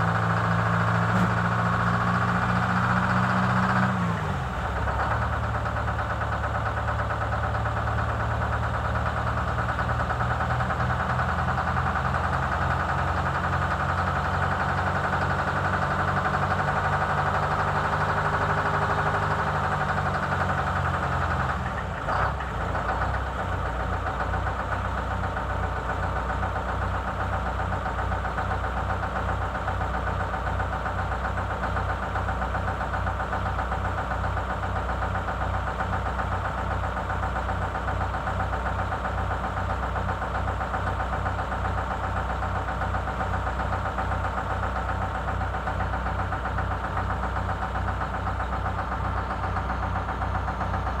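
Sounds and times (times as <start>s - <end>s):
diesel bus engine idling: 0.0s - 51.0s.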